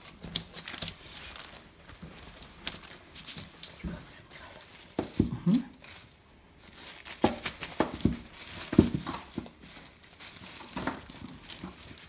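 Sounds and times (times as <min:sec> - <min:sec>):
crinkling of craft materials: 0:00.0 - 0:12.0.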